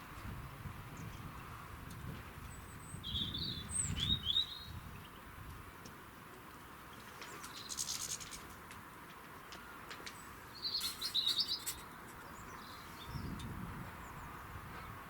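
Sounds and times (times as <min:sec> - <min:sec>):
faint outdoor background noise: 0:00.0 - 0:15.0
songbirds chirping: 0:00.9 - 0:15.0.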